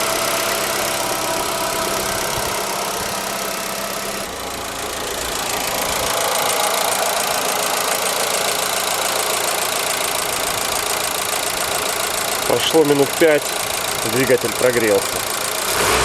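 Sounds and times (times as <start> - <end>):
metallic ticking under the hood: 0.0 - 15.7
car engine idling: 0.0 - 16.0.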